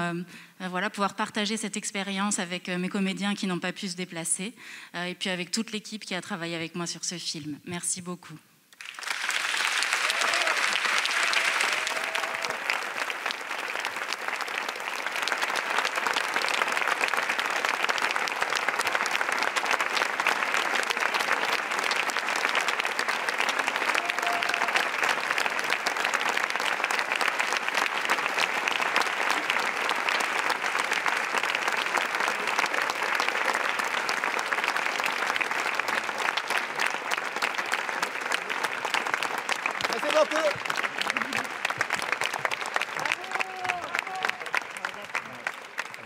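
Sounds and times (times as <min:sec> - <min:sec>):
large audience applauding: 0:08.7 - 0:46.0.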